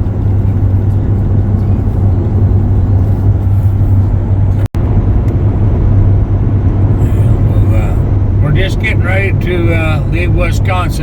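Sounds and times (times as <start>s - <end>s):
road and engine drone: 0.0s - 11.0s.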